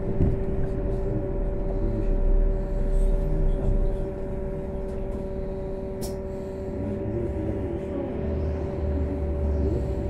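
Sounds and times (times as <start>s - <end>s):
trolleybus hum with held tones: 0.0s - 10.0s.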